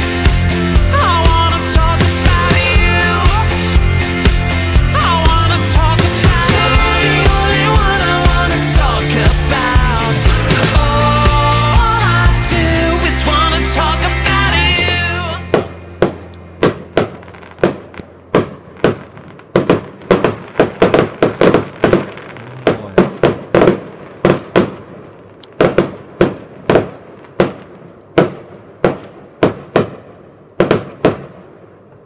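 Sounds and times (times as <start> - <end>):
fireworks bangs with echo: 1.1 - 12.4, 14.8 - 32.0.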